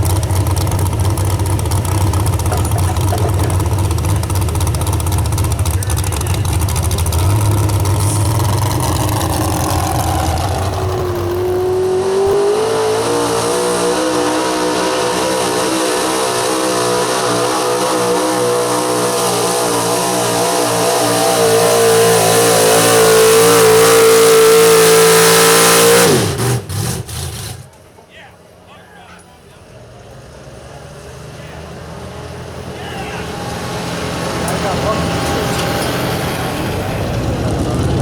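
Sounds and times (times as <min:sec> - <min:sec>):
truck engine revving: 0:00.0 - 0:28.0, 0:29.4 - 0:38.0.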